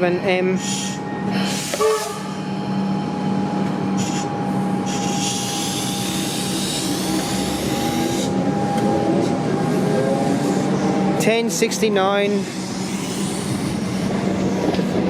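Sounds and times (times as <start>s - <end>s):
electric train motor hum: 0.0s - 15.0s
rising train whine: 0.0s - 15.0s
wheel and rail noise: 0.6s - 15.0s.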